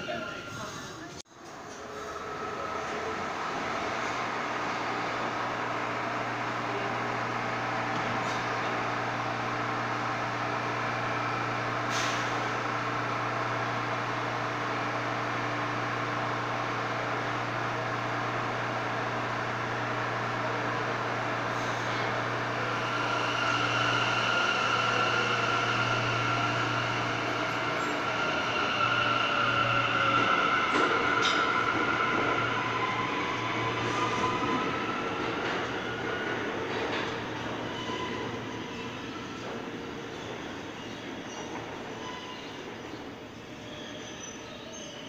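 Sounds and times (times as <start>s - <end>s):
train whine on track: 0.0s - 45.0s.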